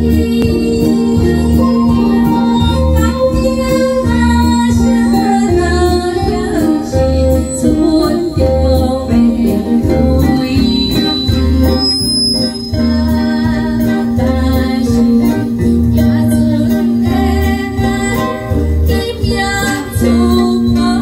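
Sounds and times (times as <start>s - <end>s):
woman singing pop ballad: 0.0s - 11.4s, 12.8s - 21.0s
backing music with bass beat: 0.0s - 21.0s.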